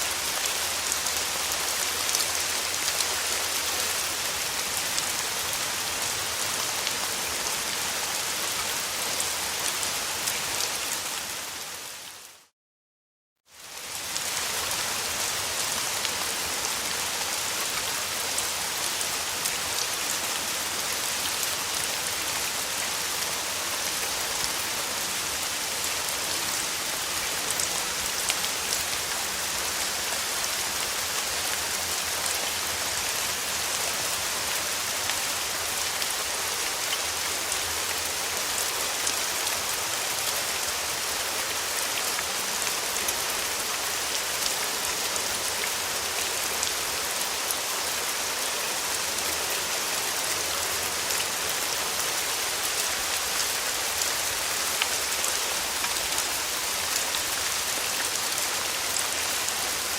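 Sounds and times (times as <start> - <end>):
steady rain falling: 0.0 - 12.5, 13.5 - 59.9.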